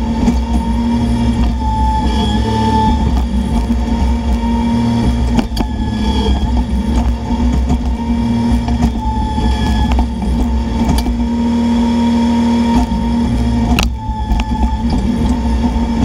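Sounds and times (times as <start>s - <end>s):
excavator diesel engine running: 0.0s - 16.0s
hydraulics working: 0.0s - 16.0s.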